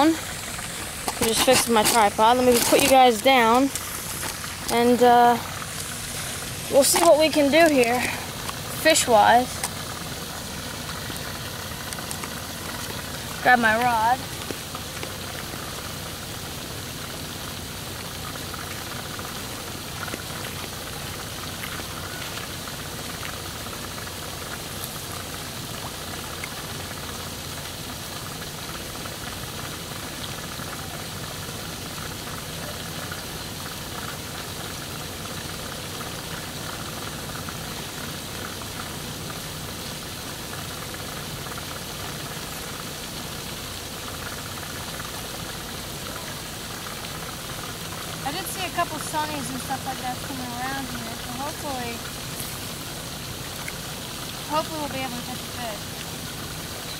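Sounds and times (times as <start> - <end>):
outdoor ambient hiss: 0.0 - 56.9.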